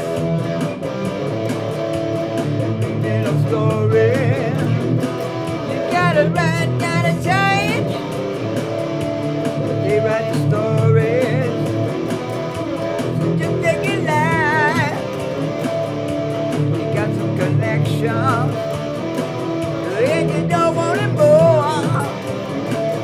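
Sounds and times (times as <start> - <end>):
drum machine beat: 0.0 - 23.0
electric guitar through amp: 0.0 - 23.0.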